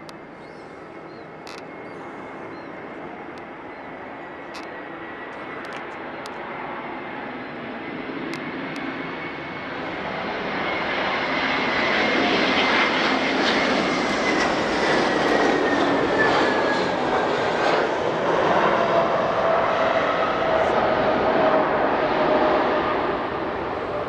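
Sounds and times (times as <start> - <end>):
high engine whine: 0.0 - 24.0
jet engines roaring: 0.0 - 24.0
lower engine whine: 0.0 - 24.0.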